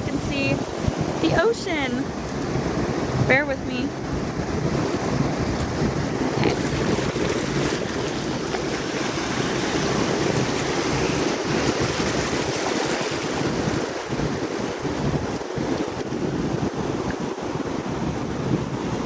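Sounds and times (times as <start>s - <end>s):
ocean surf washing on beach: 0.0s - 19.0s
wind buffeting microphone: 0.0s - 19.0s.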